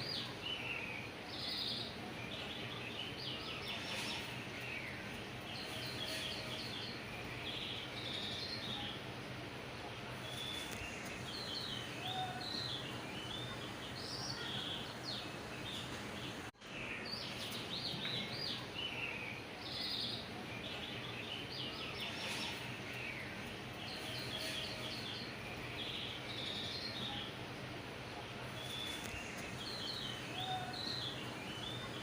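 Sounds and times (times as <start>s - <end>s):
small birds chirping: 0.0s - 32.0s
steady background hiss: 0.0s - 32.0s.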